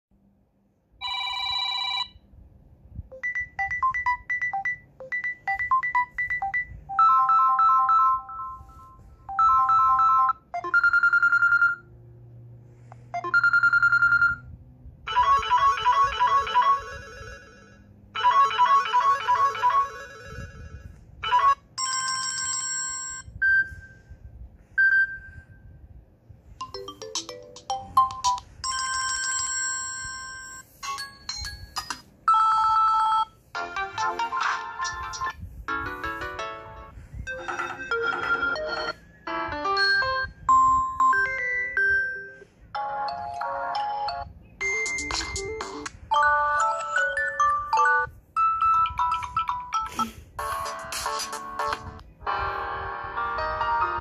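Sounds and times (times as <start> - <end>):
phone ringtone melodies and chimes: 1.0 - 2.2, 3.1 - 11.9, 13.1 - 24.1, 26.6 - 54.0.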